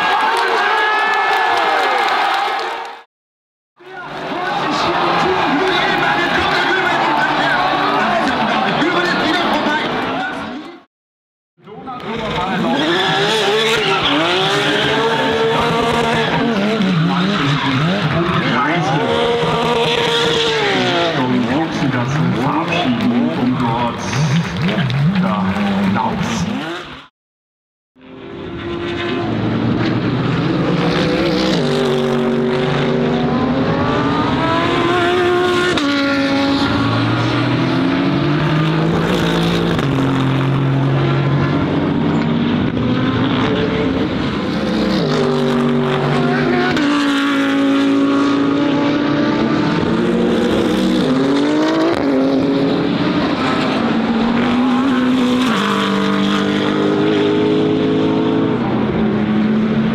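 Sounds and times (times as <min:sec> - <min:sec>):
race car engines revving: 0:03.8 - 0:10.9, 0:11.6 - 0:27.1, 0:28.0 - 0:59.9.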